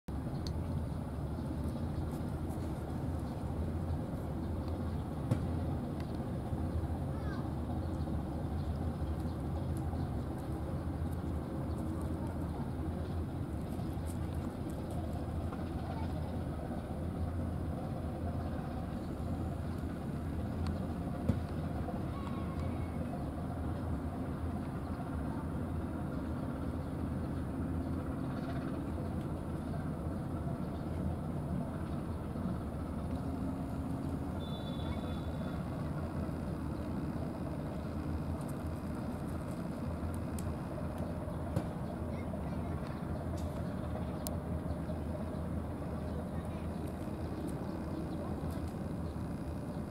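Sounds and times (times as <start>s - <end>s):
low outdoor rumble: 0.1s - 49.9s.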